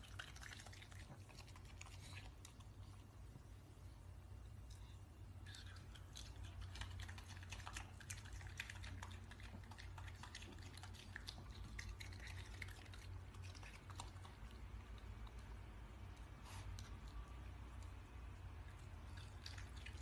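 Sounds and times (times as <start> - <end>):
animal chewing wet smacking: 0.0 - 3.1, 5.4 - 20.0
low steady hum: 0.0 - 20.0.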